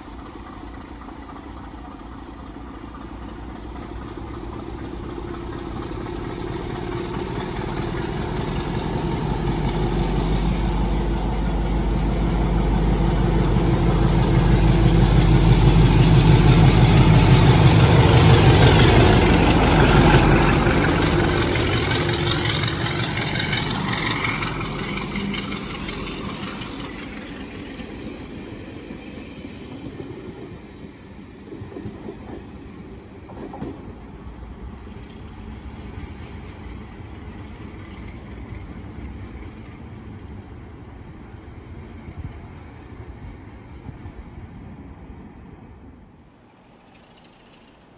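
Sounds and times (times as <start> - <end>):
diesel train passing: 0.0 - 47.9.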